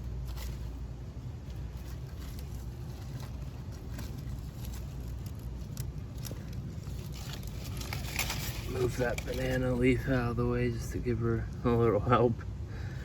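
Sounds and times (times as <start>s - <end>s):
tortoise scratching soil: 0.0s - 12.1s
steady low rumble: 0.0s - 13.0s.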